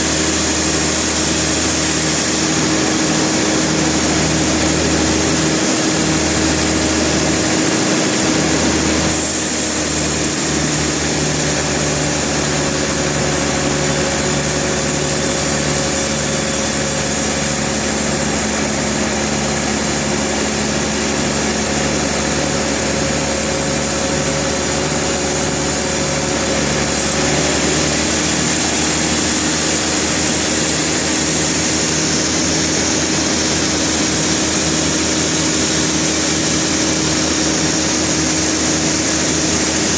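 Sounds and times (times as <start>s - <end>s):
saw hissing: 0.0s - 39.9s
sawmill machinery running: 0.0s - 39.9s.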